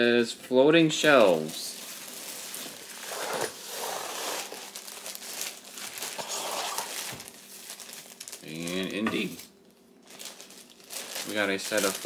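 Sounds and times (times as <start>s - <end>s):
packaging crinkling and rustling: 1.0s - 12.0s.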